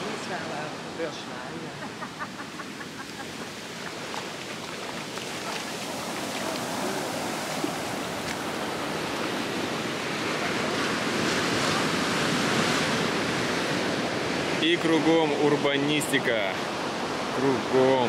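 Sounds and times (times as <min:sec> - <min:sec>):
surf washing onto beach: 0:00.0 - 0:18.0.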